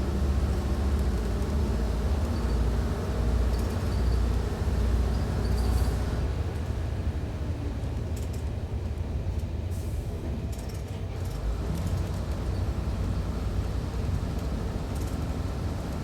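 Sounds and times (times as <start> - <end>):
railcar engine rumble: 0.0 - 16.0.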